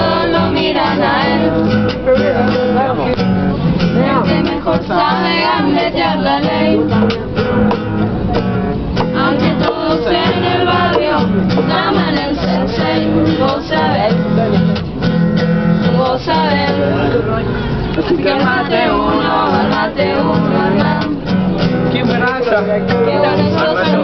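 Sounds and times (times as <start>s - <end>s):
acoustic guitar strumming: 0.0s - 24.0s
voices singing along: 0.0s - 24.0s.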